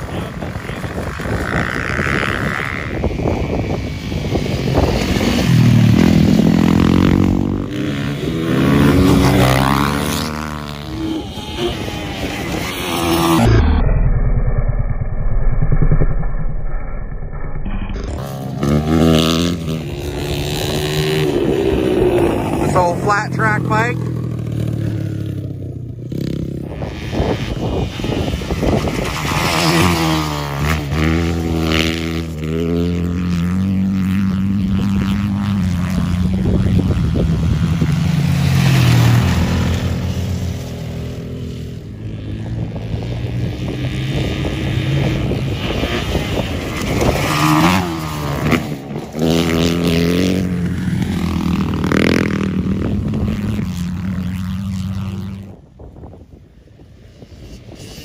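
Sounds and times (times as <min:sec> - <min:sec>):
dirt bike engines revving: 0:00.0 - 0:15.0, 0:17.6 - 0:58.0.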